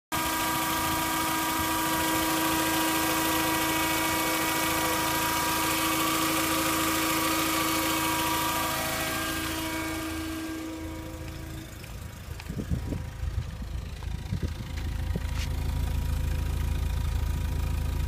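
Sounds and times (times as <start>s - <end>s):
car engine idling: 0.1s - 18.0s
engine whine: 0.1s - 18.0s.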